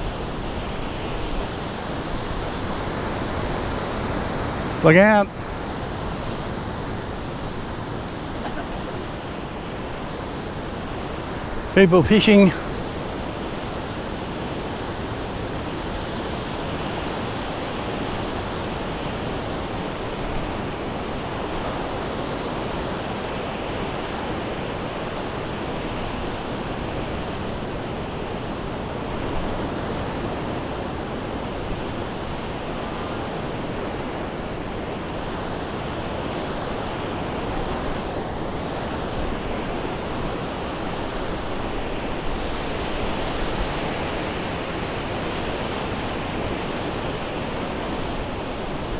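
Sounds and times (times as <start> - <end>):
waves breaking on beach: 0.0 - 48.9.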